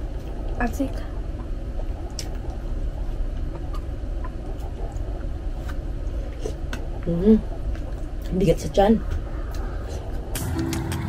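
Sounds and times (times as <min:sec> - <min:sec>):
low hum: 0:00.0 - 0:11.0
chewing and mouth sounds: 0:01.4 - 0:08.4, 0:09.0 - 0:11.0.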